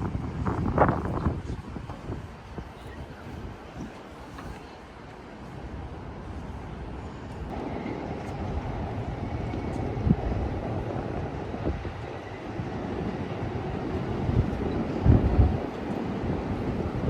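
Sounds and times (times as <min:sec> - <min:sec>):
city ambience rumble: 0:00.0 - 0:17.0.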